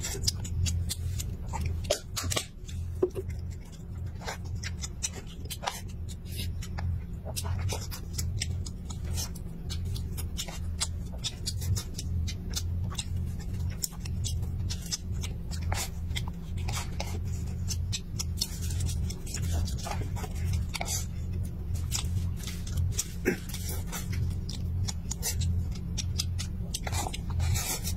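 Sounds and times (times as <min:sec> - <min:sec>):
low hum: 0:00.0 - 0:27.9
wet chewing and lip smacks: 0:00.0 - 0:27.9.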